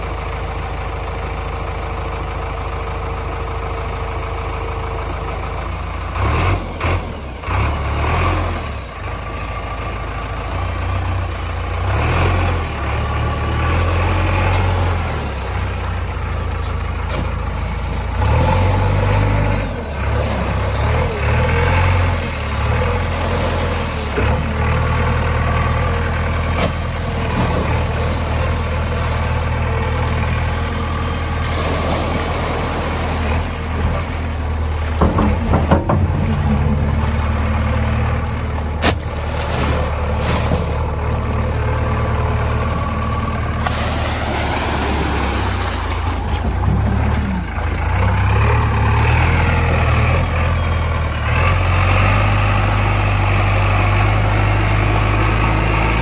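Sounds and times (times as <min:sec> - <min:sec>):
heavy diesel engine idling: 0:00.0 - 0:56.0.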